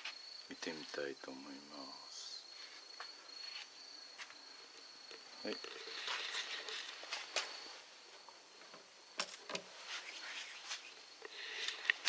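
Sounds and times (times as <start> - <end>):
insect trilling: 0.0 - 9.2, 10.1 - 12.0.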